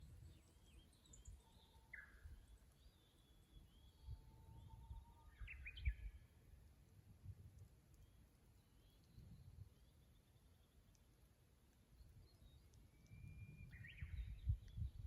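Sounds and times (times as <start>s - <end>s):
bush warbler song: 0.0s - 6.4s, 7.9s - 15.0s.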